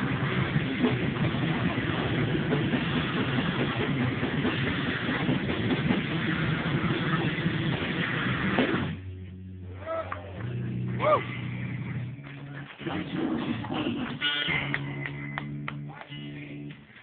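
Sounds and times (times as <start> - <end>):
live band playing distorted music: 0.0 - 17.0.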